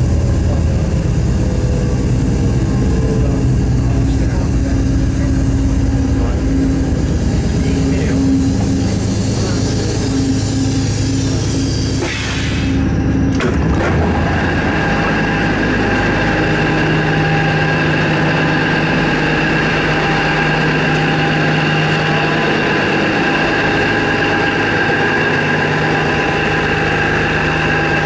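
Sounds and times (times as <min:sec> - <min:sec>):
diesel railcar engine idling: 0:00.0 - 0:28.0.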